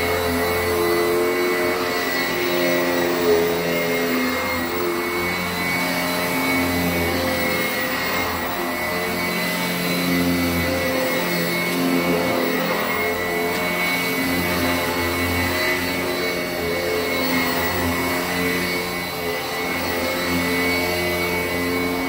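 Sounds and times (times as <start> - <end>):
upright vacuum running over carpet: 0.0 - 22.0.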